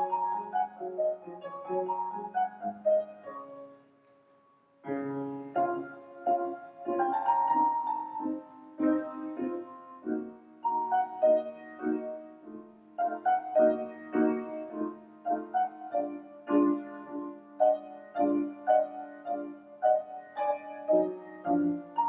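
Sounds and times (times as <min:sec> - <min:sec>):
grand piano playing: 0:00.0 - 0:04.1, 0:04.8 - 0:22.0.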